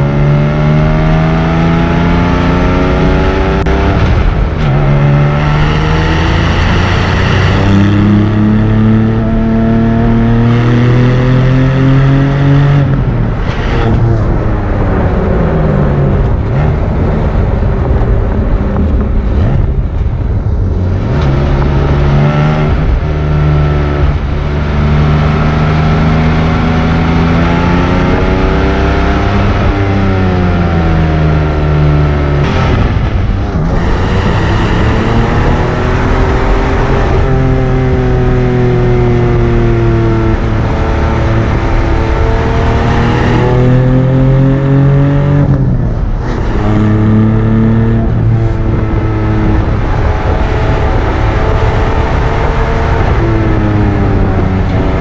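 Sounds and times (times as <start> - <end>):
car engine revving through exhaust: 0.0 - 55.0.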